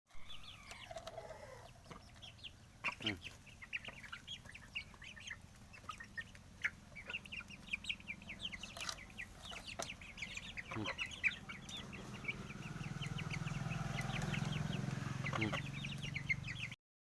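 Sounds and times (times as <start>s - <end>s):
chickens clucking: 0.2s - 16.8s.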